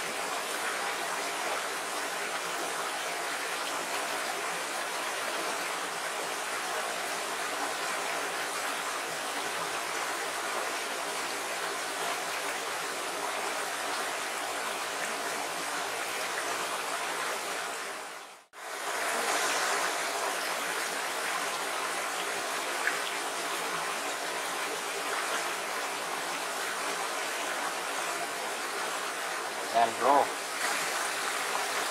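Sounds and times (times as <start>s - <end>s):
stream rushing over stones: 0.0s - 31.9s.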